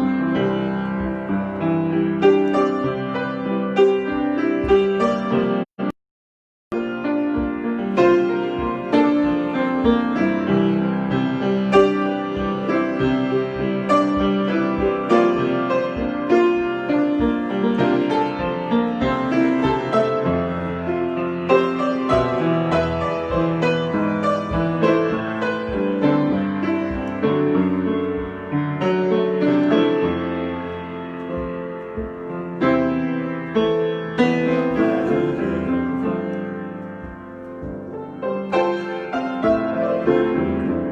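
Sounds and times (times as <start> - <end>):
solo piano playing: 0.0 - 6.0, 6.7 - 40.9.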